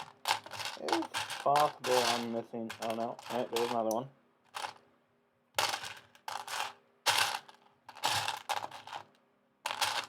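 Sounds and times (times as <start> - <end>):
plastic bricks clattering: 0.0 - 4.8, 5.6 - 10.0.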